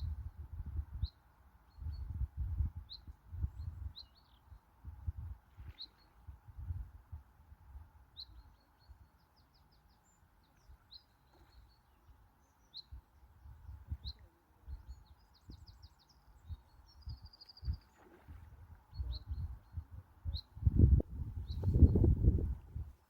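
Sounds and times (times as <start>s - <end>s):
songbirds singing: 0.9s - 6.4s, 8.0s - 22.6s.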